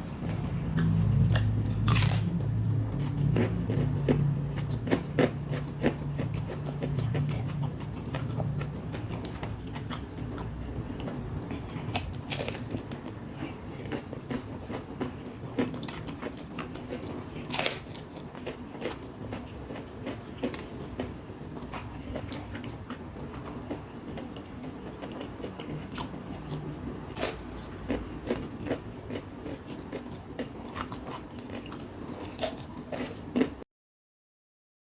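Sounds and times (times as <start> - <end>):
chewing crispy fried snacks: 0.0 - 33.6.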